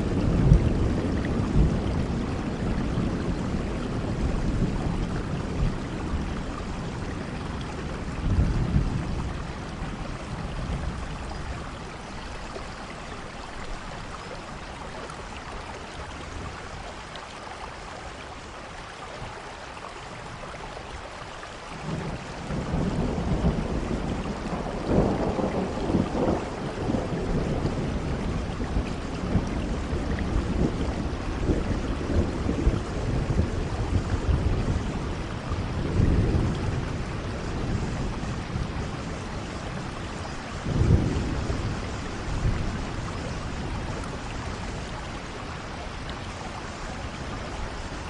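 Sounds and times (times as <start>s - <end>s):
rolling thunder: 0.0s - 12.4s, 21.8s - 48.0s
steady rain falling: 0.0s - 48.0s.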